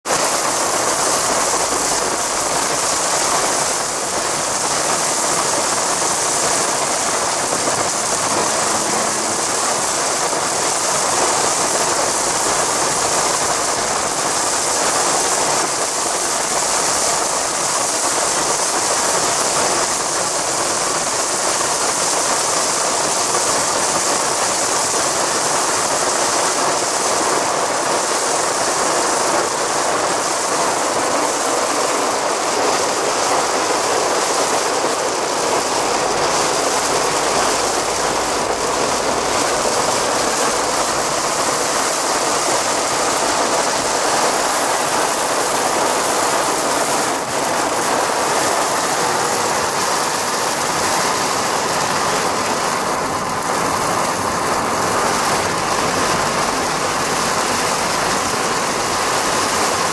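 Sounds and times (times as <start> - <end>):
heavy rain on a car roof: 0.0 - 59.9.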